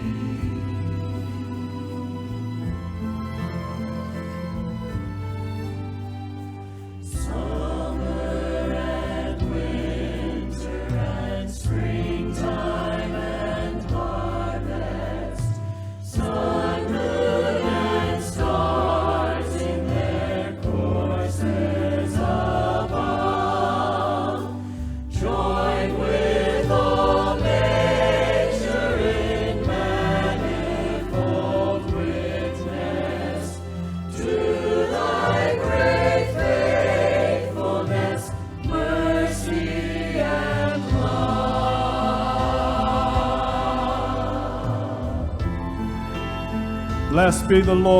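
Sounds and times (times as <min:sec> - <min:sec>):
choir singing: 0:00.0 - 0:04.3, 0:07.0 - 0:47.9
instrumental accompaniment: 0:00.0 - 0:47.9
sustained bass: 0:00.0 - 0:47.9.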